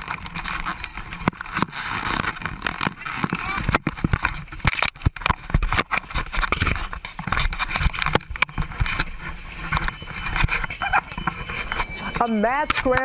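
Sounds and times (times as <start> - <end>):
knocks scrapes and clatter: 0.0 - 13.0.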